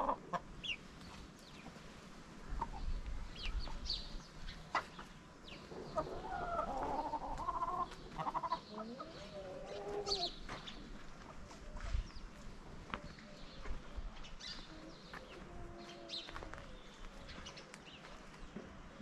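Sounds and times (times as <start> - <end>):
chicken clucking: 0.0 - 1.8, 2.4 - 11.9, 12.8 - 18.5.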